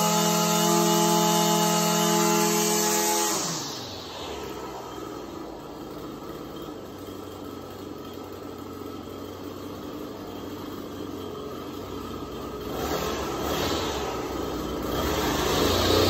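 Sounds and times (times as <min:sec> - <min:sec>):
string trimmer engine idling: 0:00.0 - 0:16.0.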